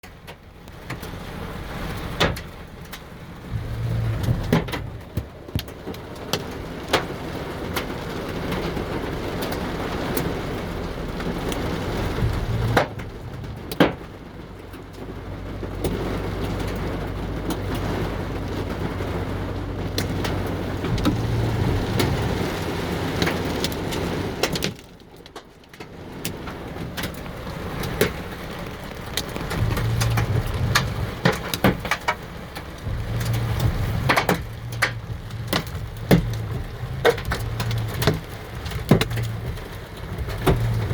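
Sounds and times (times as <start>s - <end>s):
heavy rain: 0.0s - 40.9s
hailstones clacking on hard surfaces: 0.1s - 40.9s
low rumble: 0.6s - 25.2s, 26.0s - 40.9s.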